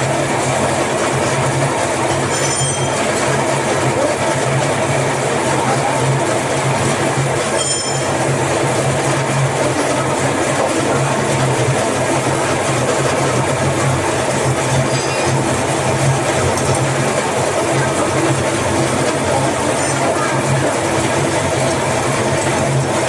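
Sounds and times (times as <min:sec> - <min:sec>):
machine humming: 0:00.0 - 0:23.0.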